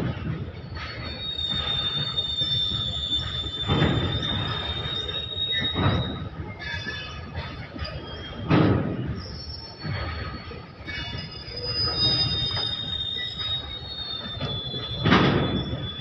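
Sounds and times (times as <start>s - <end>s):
train wheels squealing on rails: 0.0s - 16.0s.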